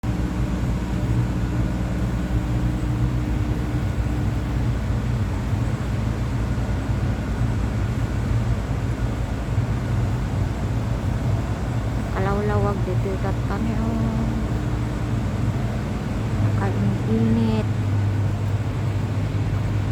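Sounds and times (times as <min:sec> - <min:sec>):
hum: 0:00.0 - 0:19.9
vehicle engine rumbling: 0:00.0 - 0:19.9.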